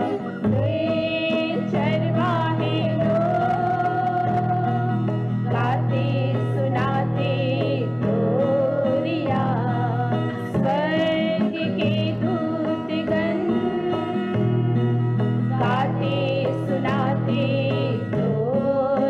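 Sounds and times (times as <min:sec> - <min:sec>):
acoustic guitar: 0:00.0 - 0:19.0
women's choir singing: 0:00.0 - 0:19.0.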